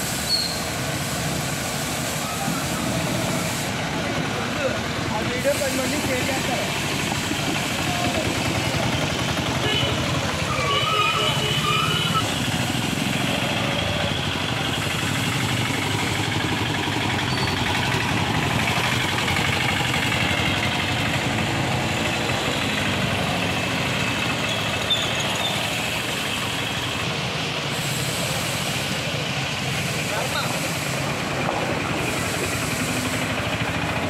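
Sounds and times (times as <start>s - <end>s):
small engines at low speed: 2.8s - 10.7s, 11.3s - 34.0s.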